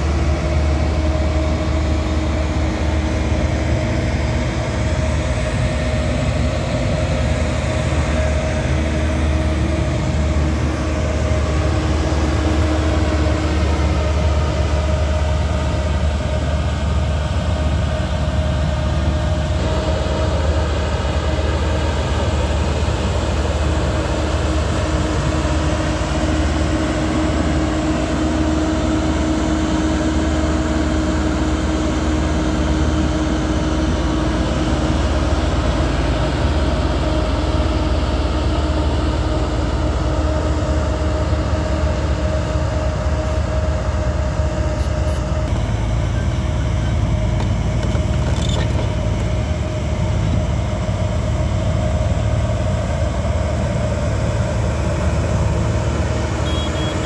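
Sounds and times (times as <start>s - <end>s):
road roller diesel engine running: 0.0s - 57.0s.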